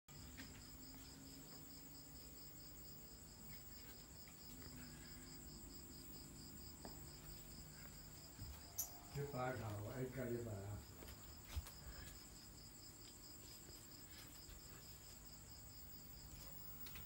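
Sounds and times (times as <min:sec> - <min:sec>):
crickets trilling: 0:00.1 - 0:17.0.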